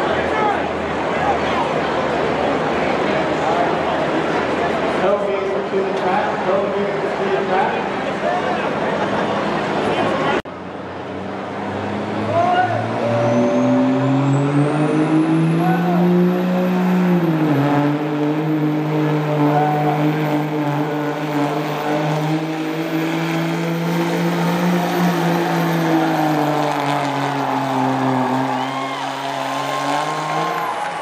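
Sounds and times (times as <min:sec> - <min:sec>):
diesel engine under load: 0:00.0 - 0:31.0.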